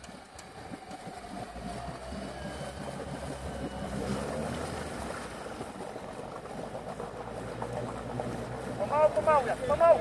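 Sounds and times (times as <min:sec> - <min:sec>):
engine running under load: 0:00.0 - 0:10.0
wheels churning and splashing water: 0:00.0 - 0:10.0.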